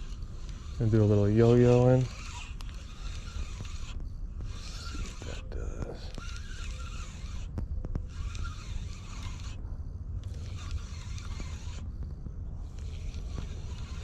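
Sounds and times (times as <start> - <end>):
spinning reel cranking: 0.0 - 9.6, 10.2 - 11.9, 12.6 - 14.0.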